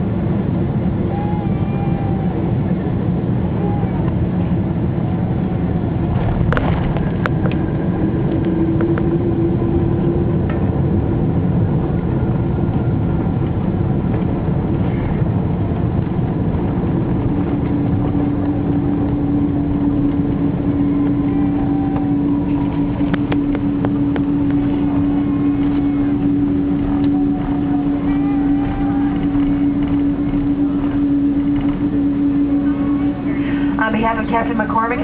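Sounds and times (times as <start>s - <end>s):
aircraft cabin rumble: 0.0s - 35.0s
steady hum: 0.0s - 35.0s.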